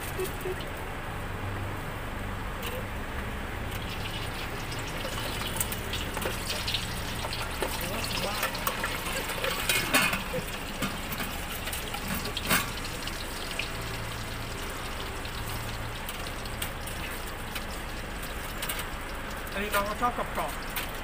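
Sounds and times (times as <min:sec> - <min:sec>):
hot oil deep-frying: 0:00.0 - 0:21.0.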